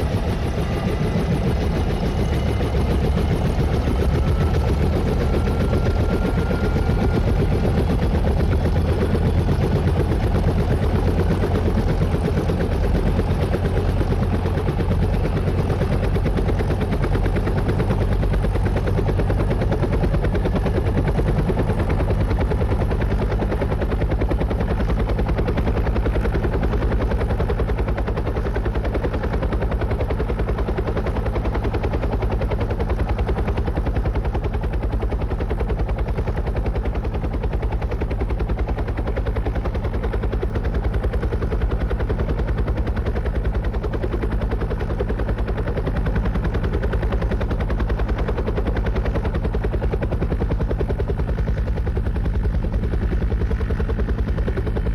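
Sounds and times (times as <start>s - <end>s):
helicopter engine drone: 0.0s - 54.9s
helicopter rotor blades chopping: 0.0s - 54.9s.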